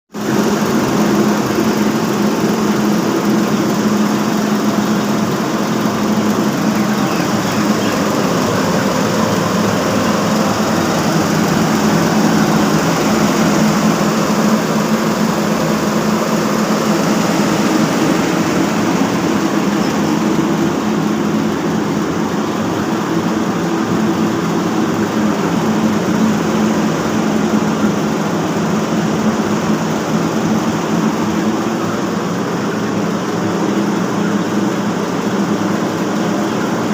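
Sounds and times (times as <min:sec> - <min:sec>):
motor humming: 0:00.2 - 0:36.8.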